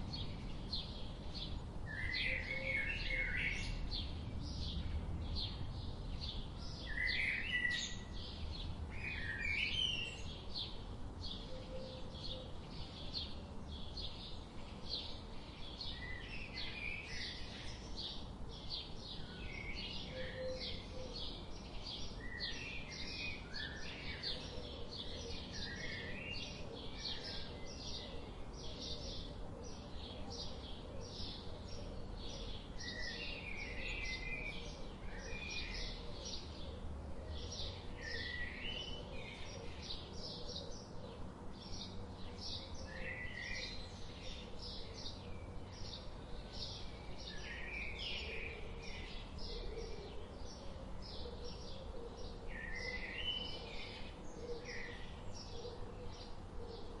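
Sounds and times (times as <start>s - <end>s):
steady low background noise: 0.0s - 57.0s.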